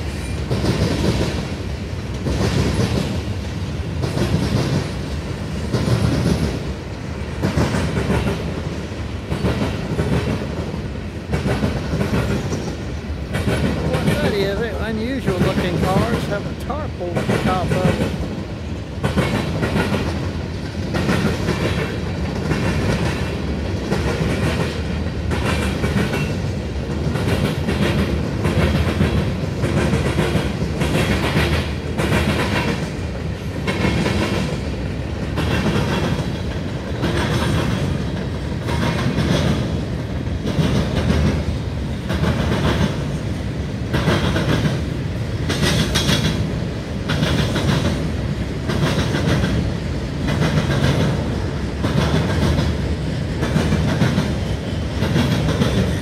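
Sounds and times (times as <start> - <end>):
freight train rumble: 0.0 - 56.0
train wheels clickety-clack: 0.0 - 56.0.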